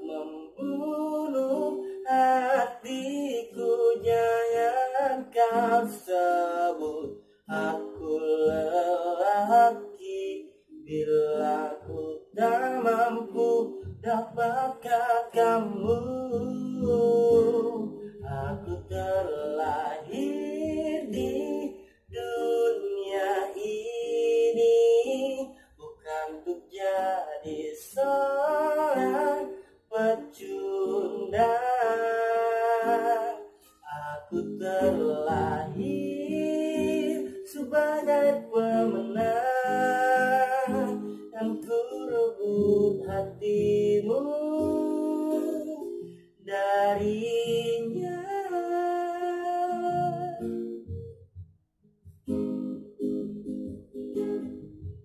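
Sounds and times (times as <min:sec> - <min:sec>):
man singing a pop ballad: 0:00.0 - 0:50.7
acoustic guitar: 0:00.0 - 0:55.0.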